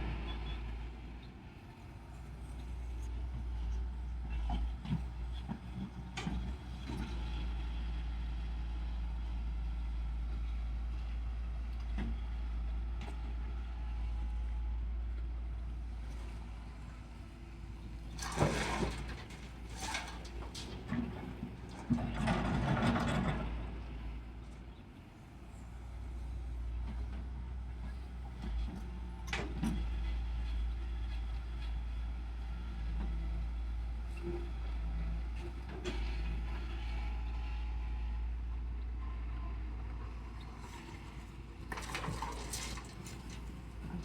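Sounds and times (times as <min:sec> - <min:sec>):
heavy diesel machinery rumbling: 0:00.0 - 0:44.0.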